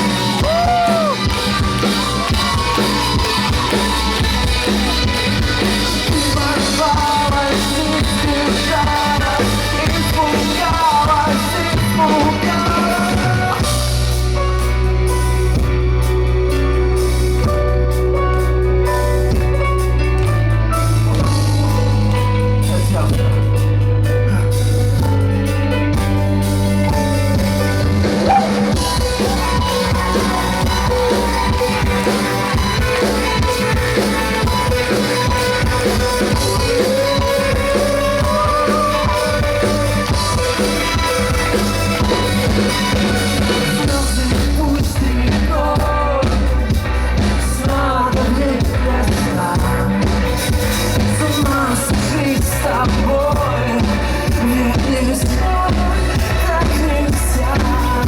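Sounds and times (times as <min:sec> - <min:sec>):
low bass notes: 0:00.0 - 0:58.0
rock band playing: 0:00.0 - 0:58.0
sung melody: 0:00.0 - 0:58.0.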